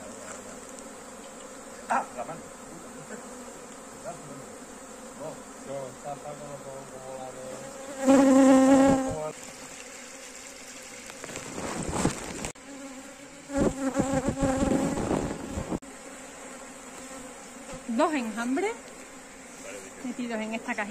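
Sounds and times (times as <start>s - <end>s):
bee buzzing close by: 0.0s - 20.9s
bees buzzing: 0.0s - 20.9s.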